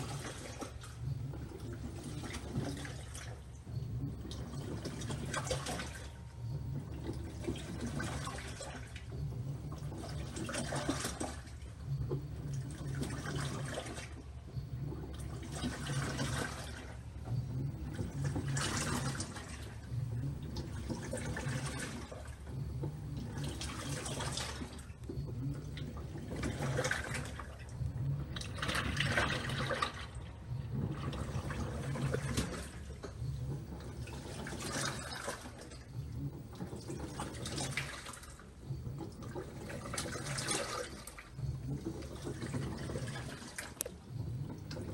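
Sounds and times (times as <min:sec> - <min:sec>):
washing machine motor hum: 0:00.0 - 0:44.9
water swishing in washing machine: 0:00.0 - 0:44.9.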